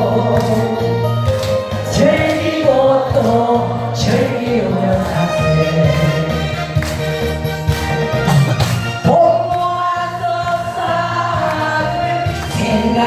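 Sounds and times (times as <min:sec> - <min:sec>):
person singing: 0:00.0 - 0:07.0, 0:07.8 - 0:13.0
trot song backing track: 0:00.0 - 0:13.0.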